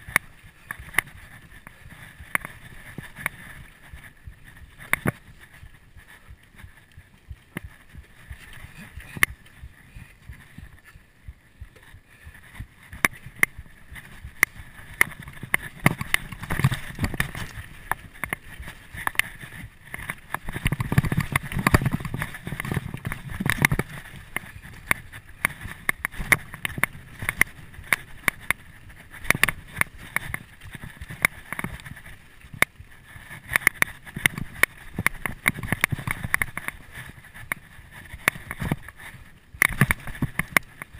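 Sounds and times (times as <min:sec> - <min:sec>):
bike clicks and knocks: 0:00.0 - 0:11.0, 0:11.6 - 0:40.9.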